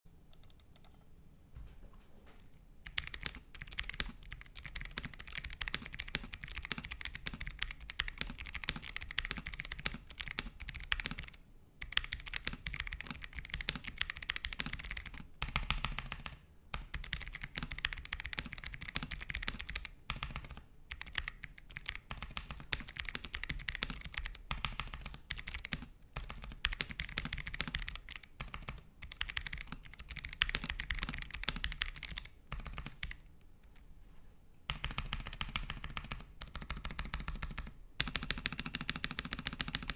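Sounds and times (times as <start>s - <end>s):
mechanical keyboard typing: 0.3s - 1.1s, 2.8s - 33.3s, 34.7s - 39.9s.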